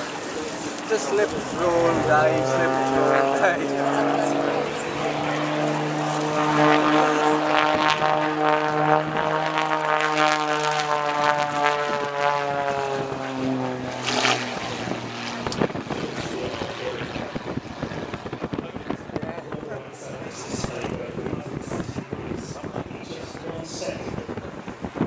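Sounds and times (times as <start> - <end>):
propeller plane engine drone: 0.0 - 25.0.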